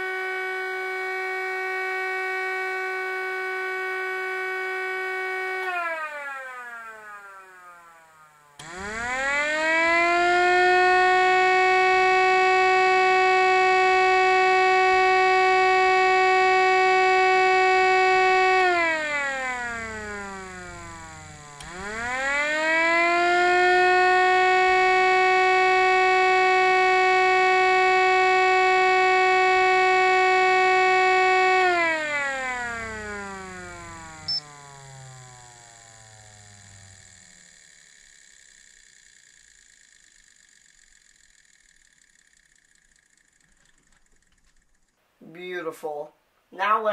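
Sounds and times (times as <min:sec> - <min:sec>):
miniature siren wailing: 0:00.0 - 0:37.6.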